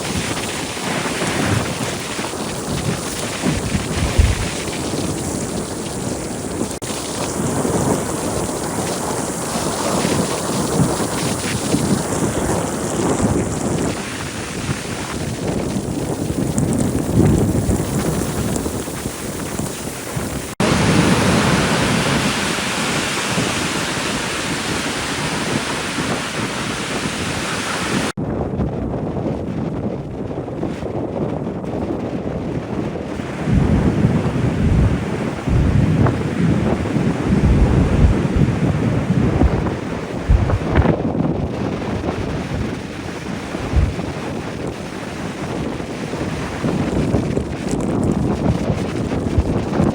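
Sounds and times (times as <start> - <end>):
ocean surf washing onto beach: 0.0 - 28.2, 33.0 - 49.9
wind buffeting microphone: 0.0 - 49.9.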